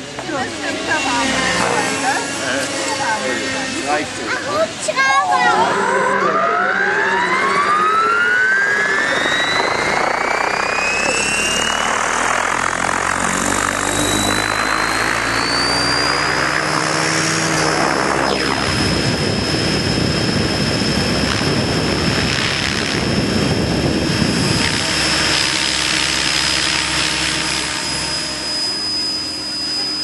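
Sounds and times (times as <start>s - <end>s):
model aircraft engine whine: 0.0s - 30.0s.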